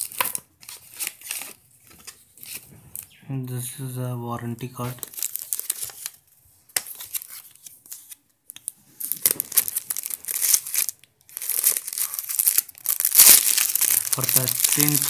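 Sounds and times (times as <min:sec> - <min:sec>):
plastic wrap crinkling: 0:00.0 - 0:03.1, 0:04.9 - 0:15.0.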